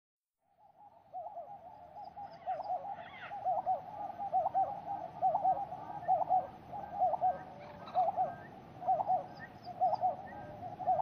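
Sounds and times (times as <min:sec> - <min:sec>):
owls hooting: 0:00.6 - 0:11.0.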